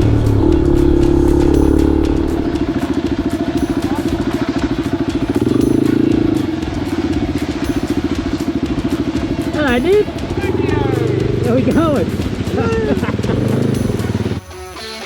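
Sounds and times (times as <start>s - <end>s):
motorcycle engine chugging: 0.0s - 14.4s.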